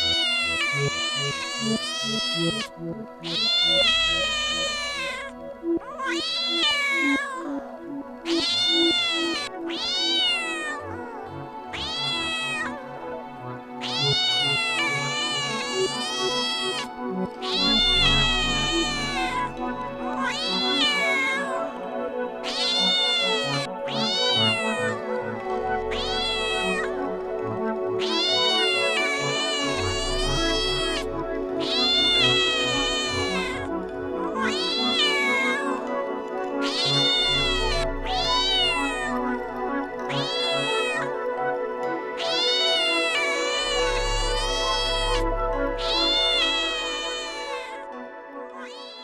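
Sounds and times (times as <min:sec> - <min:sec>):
cat meowing: 0:00.0 - 0:41.3, 0:42.1 - 0:49.0
soft background music: 0:00.0 - 0:49.0.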